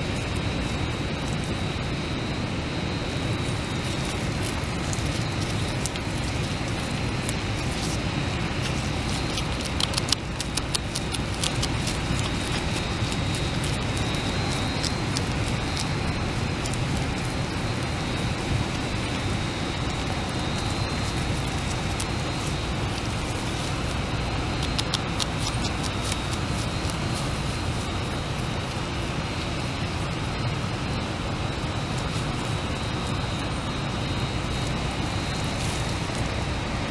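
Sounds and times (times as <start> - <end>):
faint high whine: 0.0 - 36.9
low background rumble: 0.0 - 36.9
beaver chewing leaves: 3.0 - 36.9.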